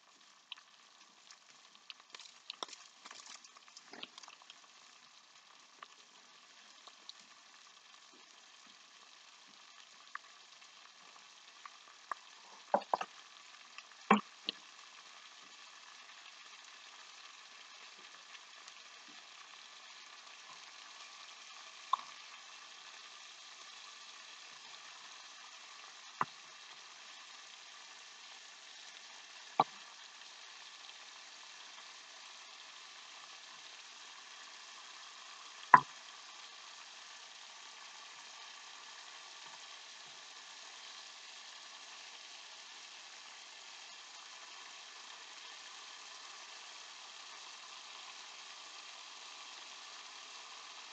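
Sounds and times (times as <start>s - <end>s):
fish sizzling in a pan: 0.0s - 50.9s.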